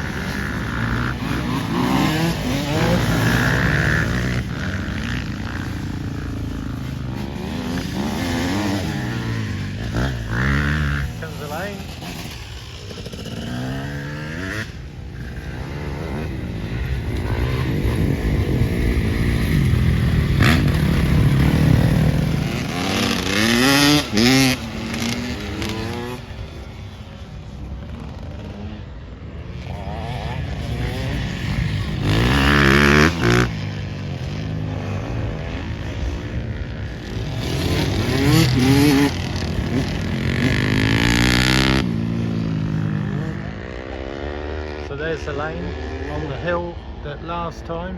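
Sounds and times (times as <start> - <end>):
motocross bike engines revving: 0.0 - 47.9.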